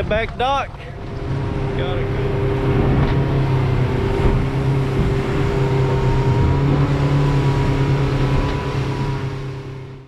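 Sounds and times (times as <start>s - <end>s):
boat engine humming: 0.0s - 10.0s
water rushing: 0.0s - 10.0s.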